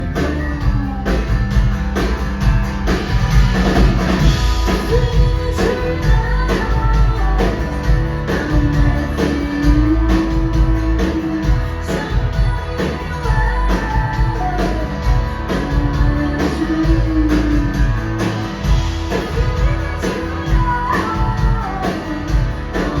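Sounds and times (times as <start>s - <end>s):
drum kit beat: 0.0s - 23.0s
guitars: 0.0s - 23.0s.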